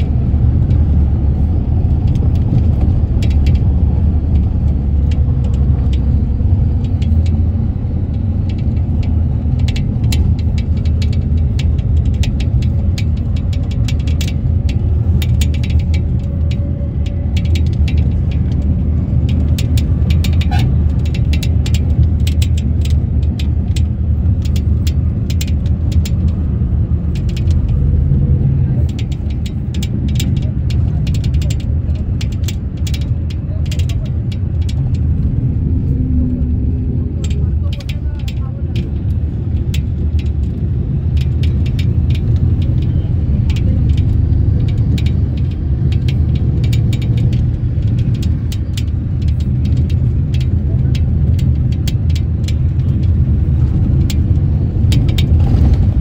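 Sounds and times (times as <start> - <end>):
rattling clicks: 0.0 - 56.0
tractor engine rumbling: 0.0 - 56.0.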